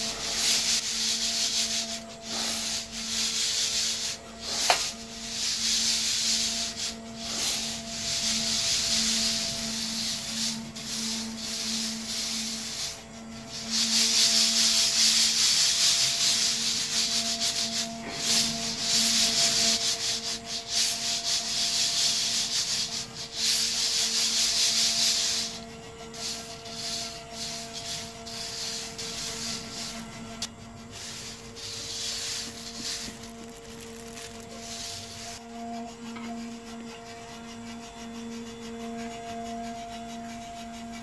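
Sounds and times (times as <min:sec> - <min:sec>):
coffee beans rustling in sieve: 0:00.0 - 0:38.5.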